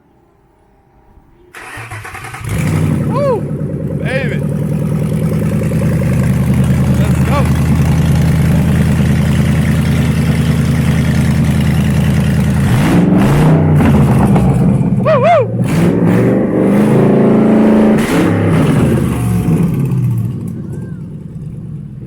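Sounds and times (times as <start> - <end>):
engine revving: 1.6 - 22.0.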